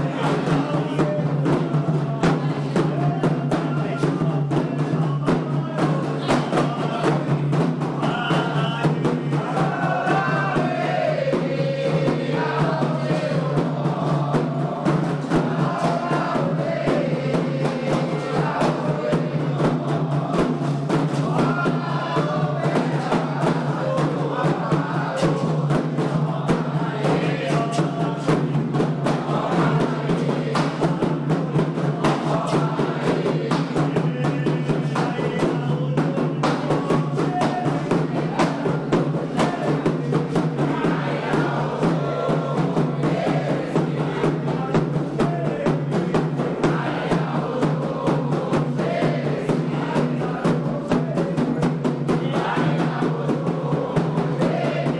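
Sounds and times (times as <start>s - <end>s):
group of voices chanting: 0.0s - 54.9s
hand drums beating fast rhythm: 0.0s - 54.9s.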